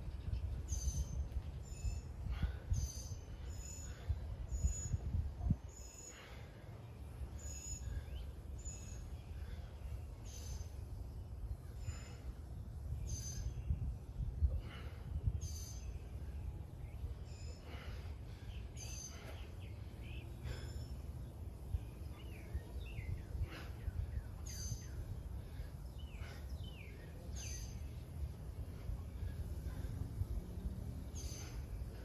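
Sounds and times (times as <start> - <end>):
birds chirping: 0.0 - 32.0
low outdoor rumble: 0.0 - 32.0.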